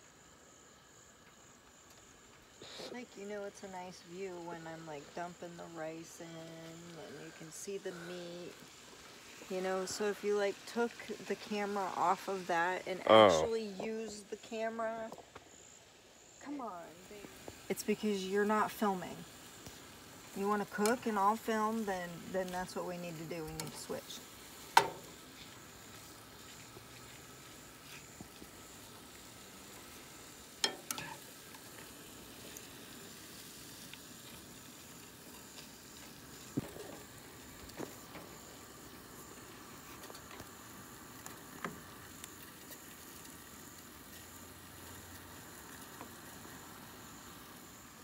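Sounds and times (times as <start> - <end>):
chicken sizzling in a skillet: 0.0 - 48.0.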